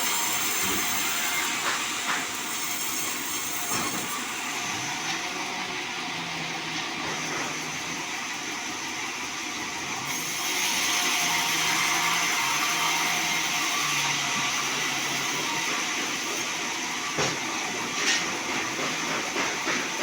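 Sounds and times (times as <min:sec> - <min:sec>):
bandsaw cutting log: 0:00.0 - 0:20.0.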